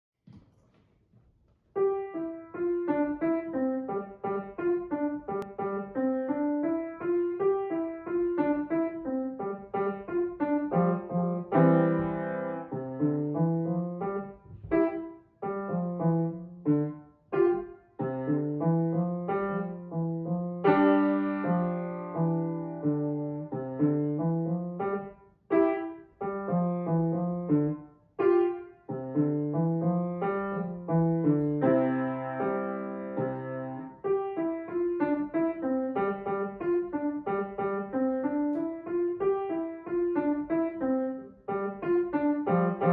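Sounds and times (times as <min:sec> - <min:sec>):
grand piano melody: 0:01.7 - 0:42.9.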